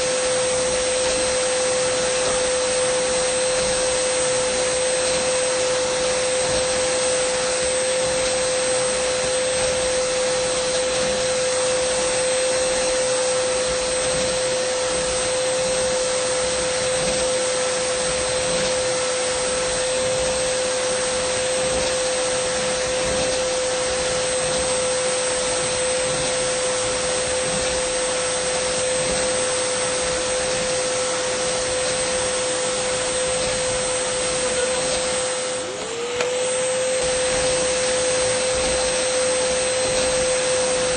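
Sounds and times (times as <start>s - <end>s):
vacuum cleaner whine: 0.0s - 40.9s.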